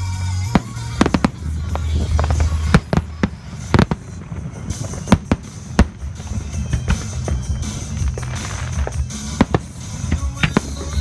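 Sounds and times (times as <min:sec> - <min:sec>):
firework shells bursting: 0:00.4 - 0:11.0.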